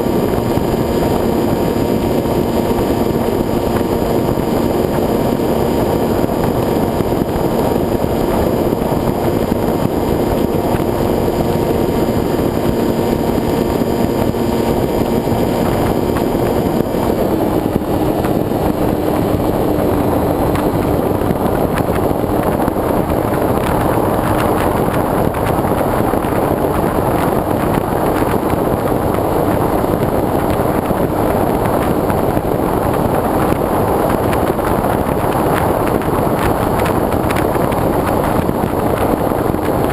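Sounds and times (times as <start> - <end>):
model plane motor and propeller: 0.0 - 39.9
wind rushing over microphone: 0.0 - 39.9.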